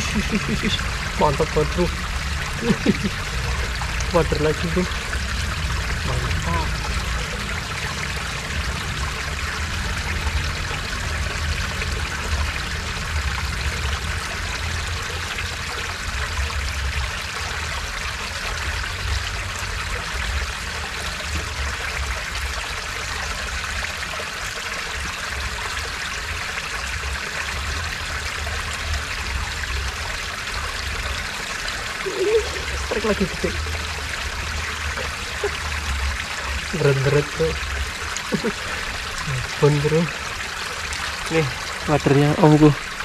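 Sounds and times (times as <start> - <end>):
water rushing over weir: 0.0 - 43.0.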